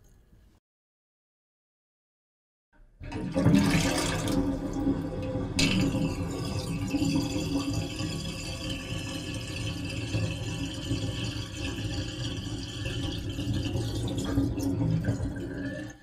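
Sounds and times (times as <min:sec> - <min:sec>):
water rushing down a drain: 0:03.0 - 0:16.0.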